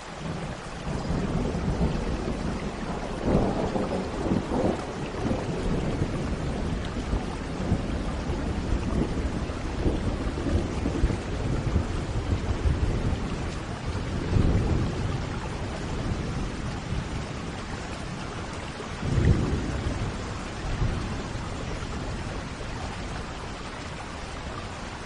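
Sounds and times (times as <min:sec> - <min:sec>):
heavy rain: 0:00.0 - 0:25.0
rumbling thunder: 0:00.2 - 0:25.0.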